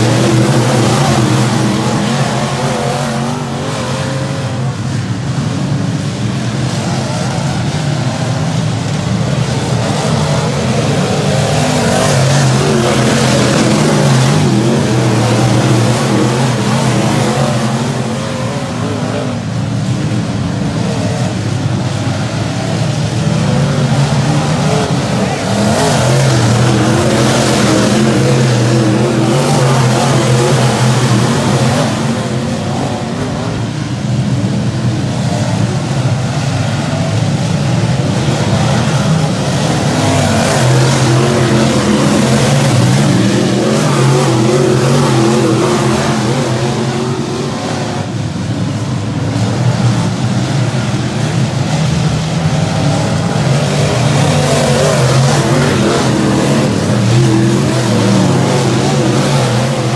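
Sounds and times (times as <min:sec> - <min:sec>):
race car engines running hard: 0:00.0 - 0:59.9.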